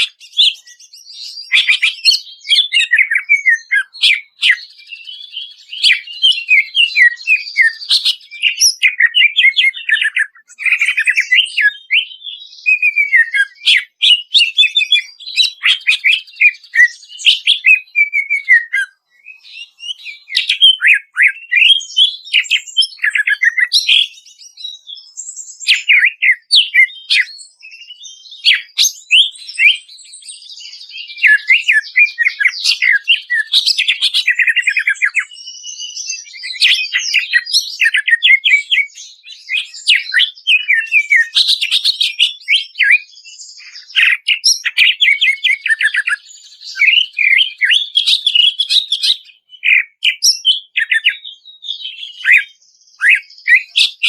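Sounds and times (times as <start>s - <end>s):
bird singing trills: 0.0s - 54.0s.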